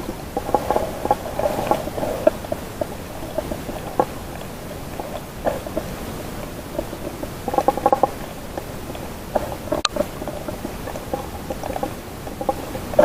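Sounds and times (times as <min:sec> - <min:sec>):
gurgling bubble blips: 0:00.0 - 0:13.0
underwater clicks: 0:00.0 - 0:13.0.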